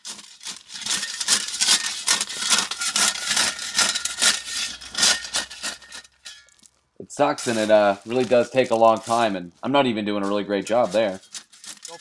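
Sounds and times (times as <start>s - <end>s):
shovel scraping gravel: 0.0s - 12.0s.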